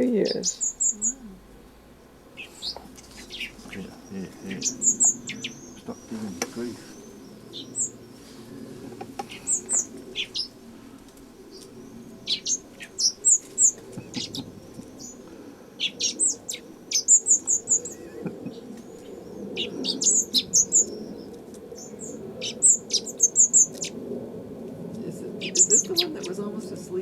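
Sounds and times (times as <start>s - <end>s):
downward sweeping bird calls: 0.0s - 24.2s, 25.3s - 26.8s
young birds begging chirps: 0.0s - 27.0s.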